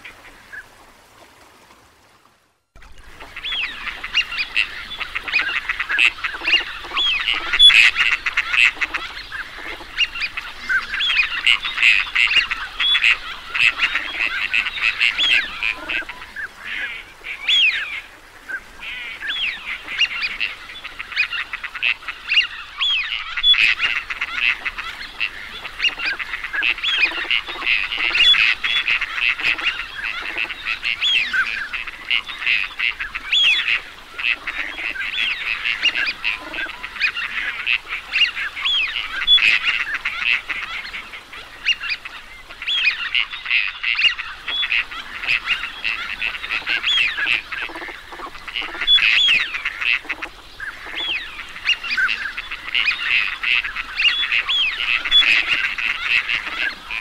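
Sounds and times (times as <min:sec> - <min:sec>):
flock of ducks whistling: 0:03.3 - 0:17.9, 0:18.8 - 0:57.0.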